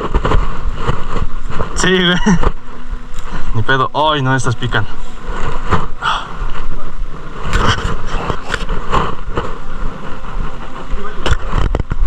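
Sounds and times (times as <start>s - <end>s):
footsteps crunching on dry ground: 0.0s - 12.0s
low wind rumble on microphone: 0.0s - 12.0s
brushing through dry scrub: 0.5s - 11.2s.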